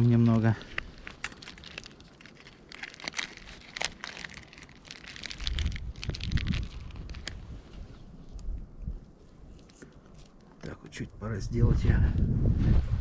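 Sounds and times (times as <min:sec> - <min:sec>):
crinkling handling noise: 0:00.0 - 0:10.7.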